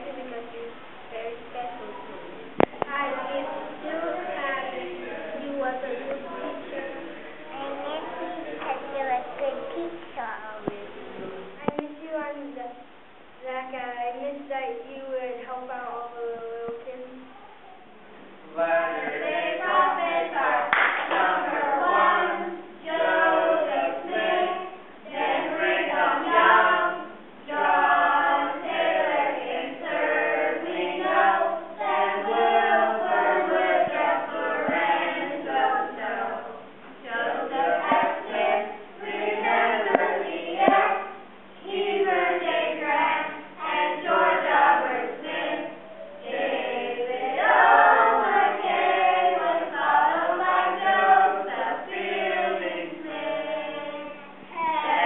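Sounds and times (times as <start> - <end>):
children and adults singing: 0.0 - 11.8, 17.8 - 55.0.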